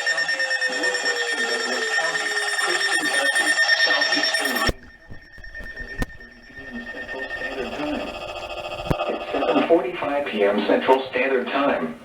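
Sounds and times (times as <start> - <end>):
weather alert alarm tone: 0.0 - 9.9.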